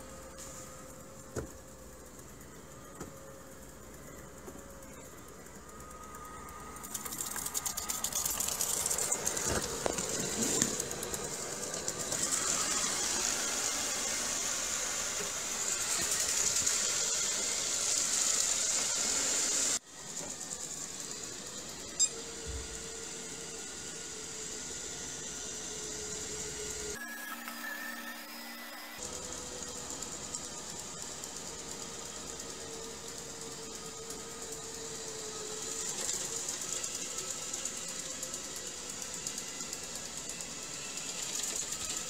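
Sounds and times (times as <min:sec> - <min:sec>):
wet-dry vacuum running: 0:00.0 - 0:42.0.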